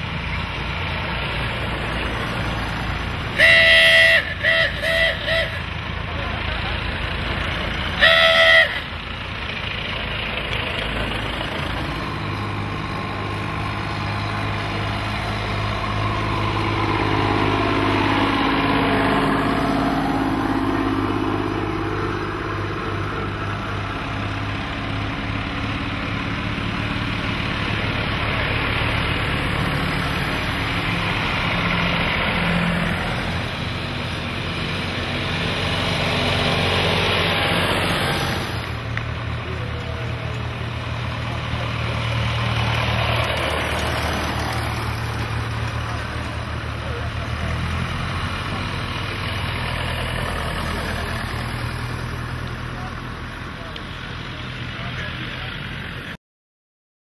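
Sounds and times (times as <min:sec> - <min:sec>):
tractor engines driving past: 0:00.0 - 0:56.2.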